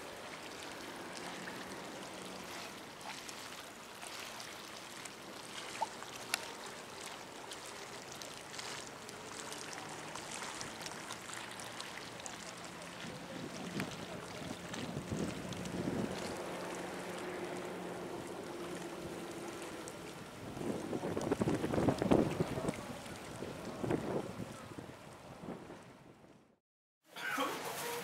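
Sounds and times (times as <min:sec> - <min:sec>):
water lapping against quay: 0:00.0 - 0:28.0.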